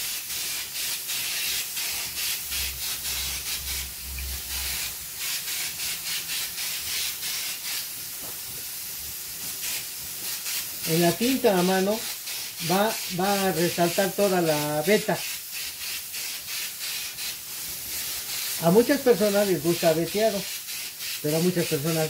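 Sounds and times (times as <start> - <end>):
spray gun hissing: 0.0 - 22.0.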